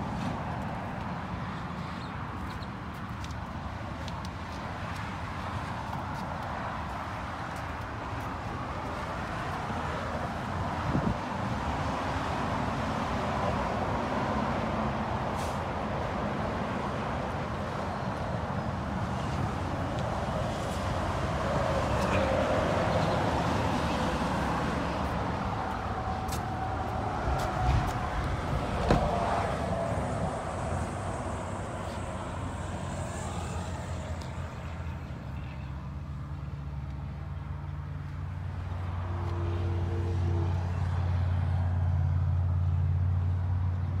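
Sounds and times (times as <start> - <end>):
road traffic hum: 0.0 - 44.0.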